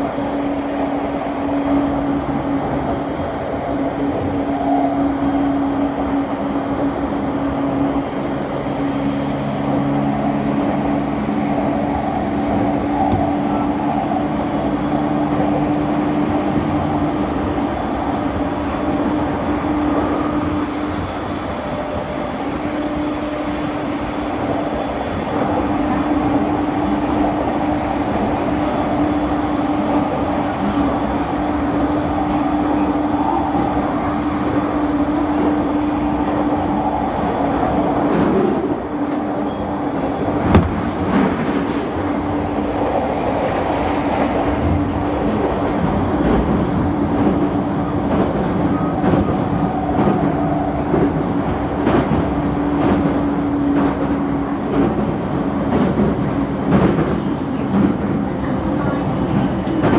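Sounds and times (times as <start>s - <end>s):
train running at speed: 0.0s - 59.9s.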